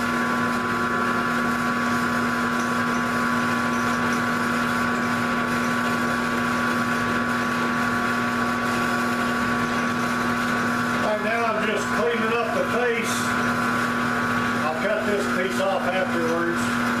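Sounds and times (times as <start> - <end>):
mill drill motor hum: 0.0 - 17.0.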